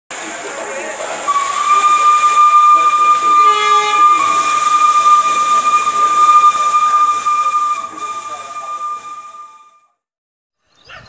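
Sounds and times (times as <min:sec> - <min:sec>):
steam hissing: 0:00.1 - 0:09.7
steam whistle blowing: 0:00.1 - 0:09.8
lower whistle tone: 0:00.1 - 0:10.0.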